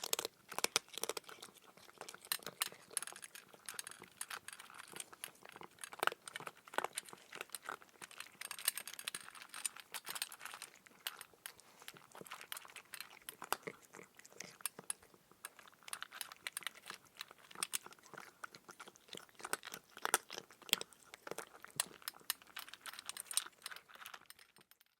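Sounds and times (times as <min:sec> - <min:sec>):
cat crunching kibble: 0:00.0 - 0:24.9.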